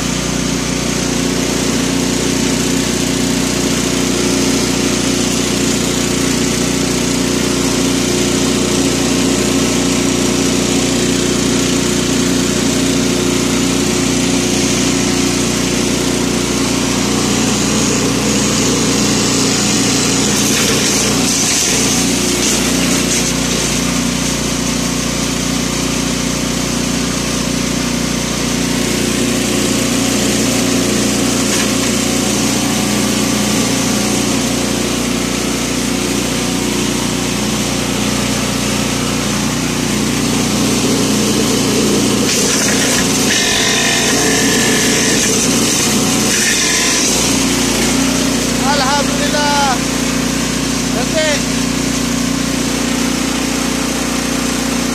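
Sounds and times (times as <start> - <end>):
wood-grinding machine droning: 0.0 - 54.9.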